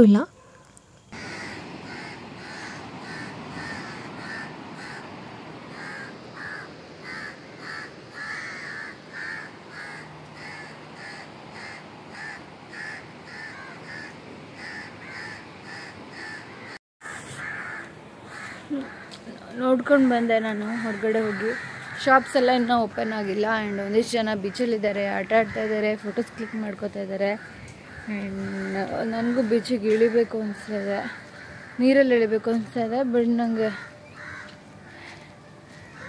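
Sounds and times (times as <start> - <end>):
steady background hiss: 0.0 - 36.0
crows cawing: 1.2 - 32.7, 33.5 - 36.0.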